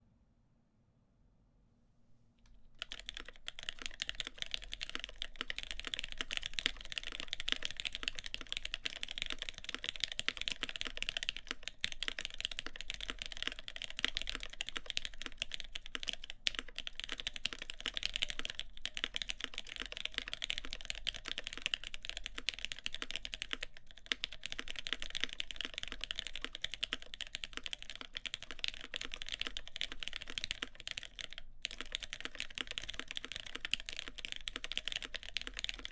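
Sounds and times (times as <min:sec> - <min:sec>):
fast mechanical keyboard typing: 0:02.5 - 0:35.9.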